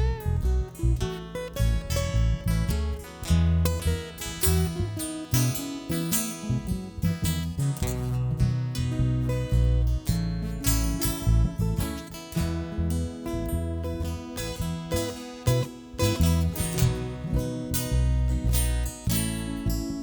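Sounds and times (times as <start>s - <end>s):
acoustic guitar strumming: 0.0s - 20.0s
plucked bass guitar notes: 0.0s - 20.0s.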